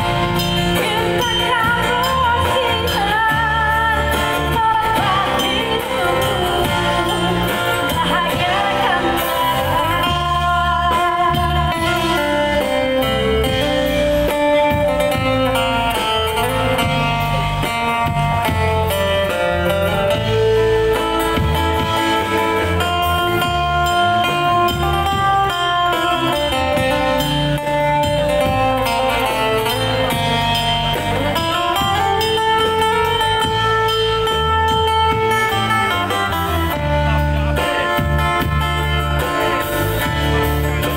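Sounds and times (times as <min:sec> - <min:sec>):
amplified acoustic guitar: 0:00.0 - 0:40.9.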